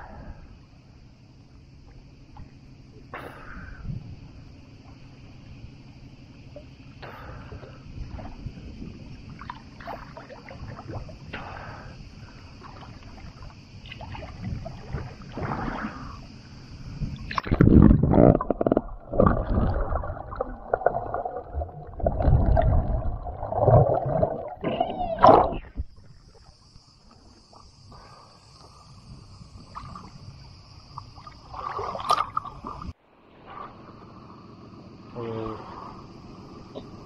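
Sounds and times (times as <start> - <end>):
cicadas buzzing: 0.0 - 37.0
muffled underwater sloshing: 0.0 - 37.0.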